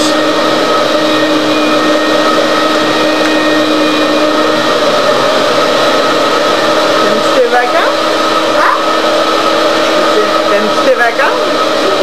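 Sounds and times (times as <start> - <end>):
motor whirring and humming: 0.0 - 12.0.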